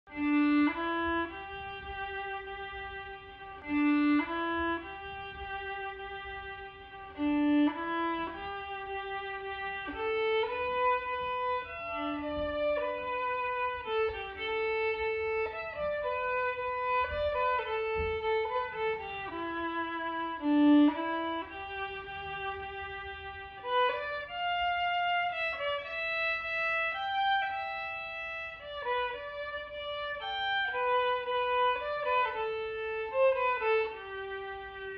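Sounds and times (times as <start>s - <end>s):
violin slow melody: 0.0s - 34.9s.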